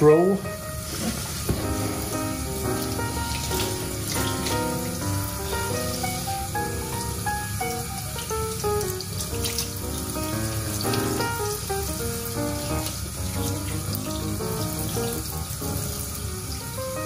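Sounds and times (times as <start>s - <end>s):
background music: 0.0s - 17.0s
tap water running into a sink: 0.8s - 17.0s
water splashing in steel sink: 0.9s - 16.6s.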